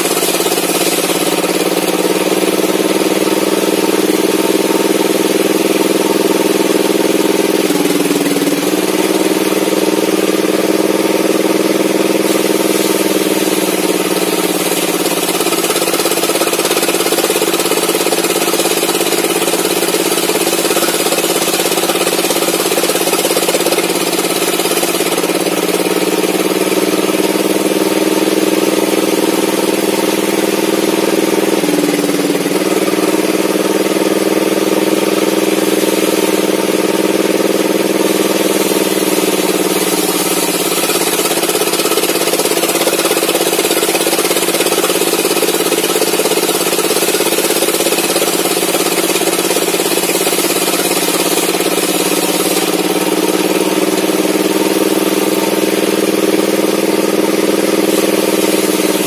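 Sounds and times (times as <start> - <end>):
table saw ripping wood: 0.0 - 56.6, 57.2 - 59.0.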